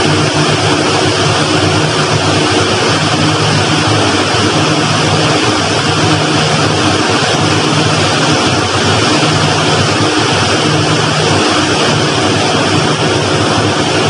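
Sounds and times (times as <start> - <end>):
boat engine low hum: 0.0 - 14.0
loud even rushing noise: 0.0 - 14.0.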